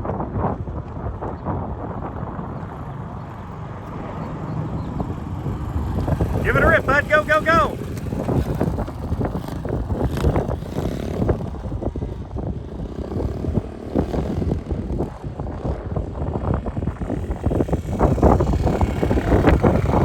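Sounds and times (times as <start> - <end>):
wind buffeting microphone: 0.0 - 20.0
small motorbike engine rumbling: 0.7 - 20.0.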